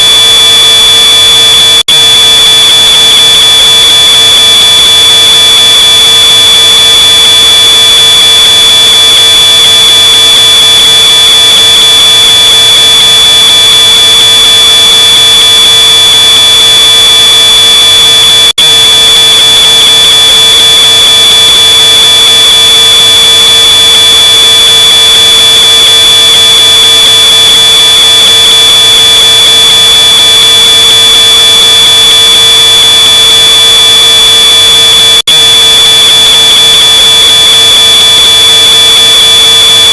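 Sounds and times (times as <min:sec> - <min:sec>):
distorted smoke alarm tone: 0:00.0 - 0:39.9.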